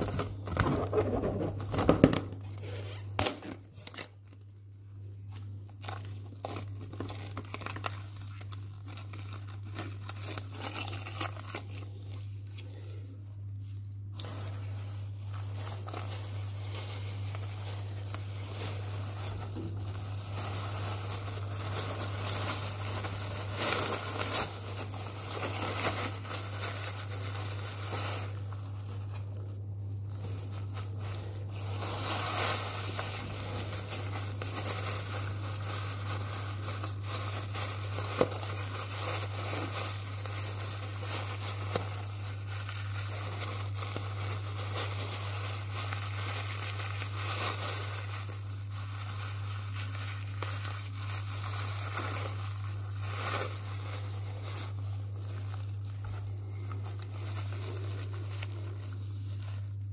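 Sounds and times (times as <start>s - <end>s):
plastic bag crinkling: 0.0s - 59.9s
steady low hum: 8.0s - 59.9s.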